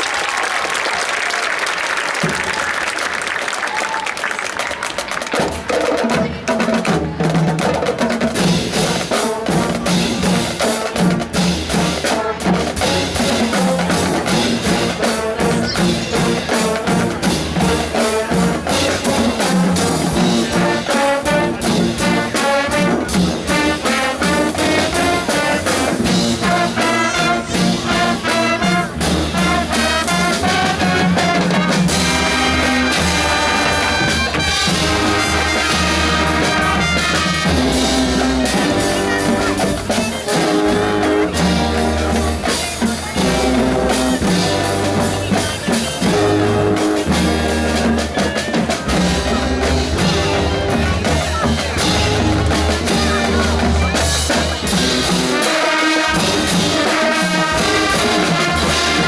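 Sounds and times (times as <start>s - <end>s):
drums keeping steady beat: 4.6s - 59.0s
brass section playing: 8.4s - 59.0s.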